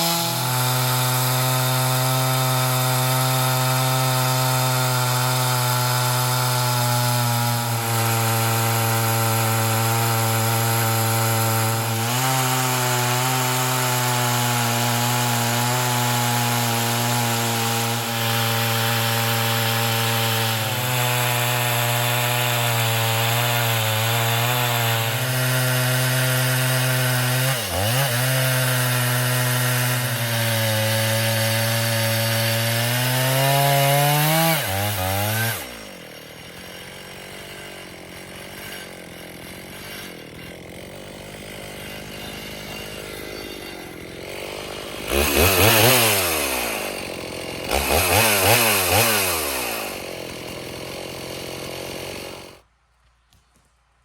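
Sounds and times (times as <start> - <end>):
chainsaw cutting log: 0.0 - 53.7.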